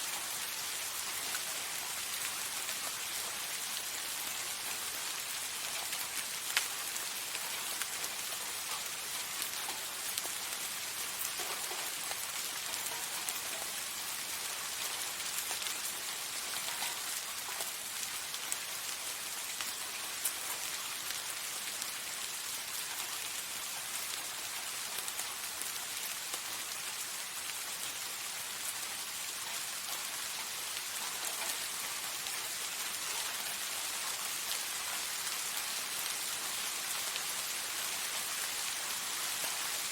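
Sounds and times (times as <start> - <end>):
soft rain falling: 0.0 - 39.9
raindrops ticking: 0.2 - 39.9.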